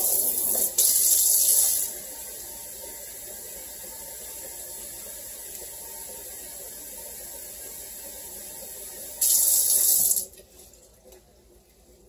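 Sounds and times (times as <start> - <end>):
tap water running: 0.0 - 11.2.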